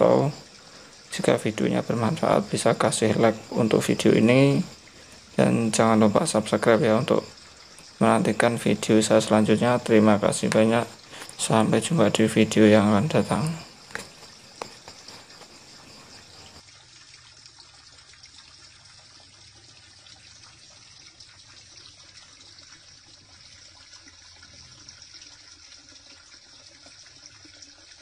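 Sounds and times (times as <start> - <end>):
water splashing into pond: 0.0 - 28.0.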